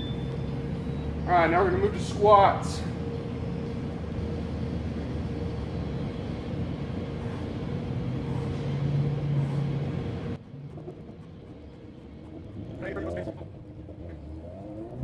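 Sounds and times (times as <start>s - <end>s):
faint constant hum: 0.0s - 15.0s
low mechanical rumble: 0.0s - 15.0s.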